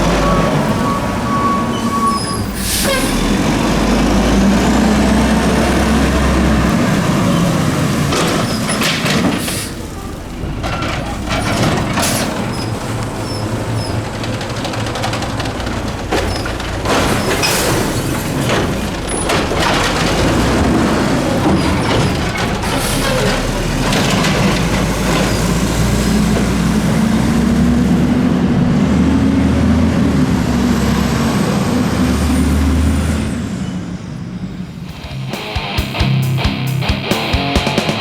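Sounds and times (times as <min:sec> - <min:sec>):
truck diesel engine revving: 0:00.0 - 0:33.6.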